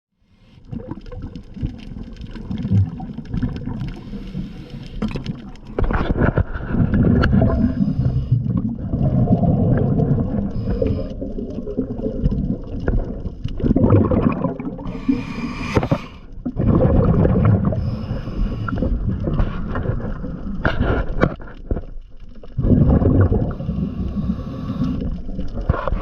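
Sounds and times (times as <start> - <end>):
underwater gurgling and bubbling: 0.3 - 26.0.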